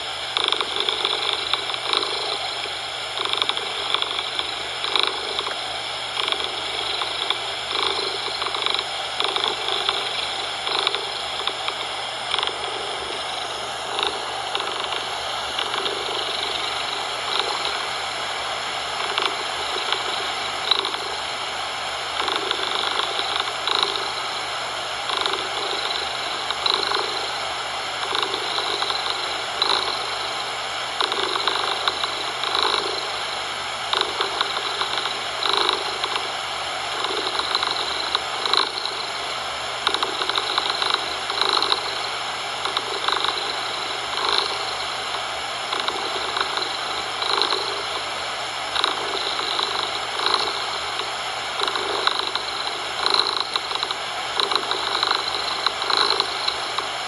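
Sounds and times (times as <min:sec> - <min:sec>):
cat purring: 0:00.0 - 0:21.4, 0:22.2 - 0:24.4, 0:25.0 - 0:36.3, 0:36.9 - 0:48.1, 0:48.7 - 0:57.0.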